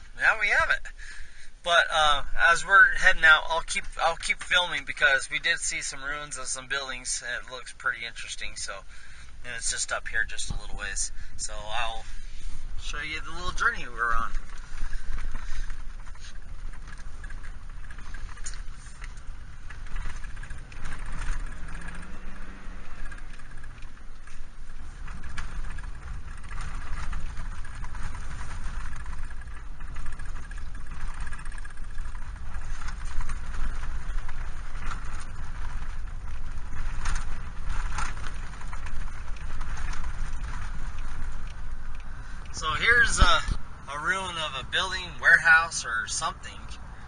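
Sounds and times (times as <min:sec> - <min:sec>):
ticks and rattles: 0:00.0 - 0:47.0
vehicle road noise rumble: 0:00.0 - 0:47.0.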